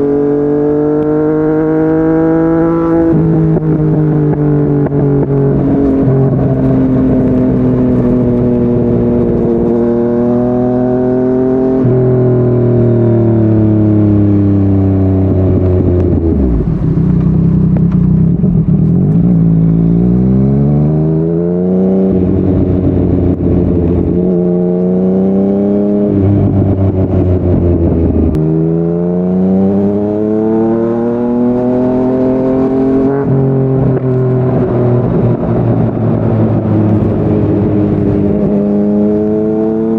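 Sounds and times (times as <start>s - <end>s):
motorcycle engine accelerating hard: 0.0s - 39.9s.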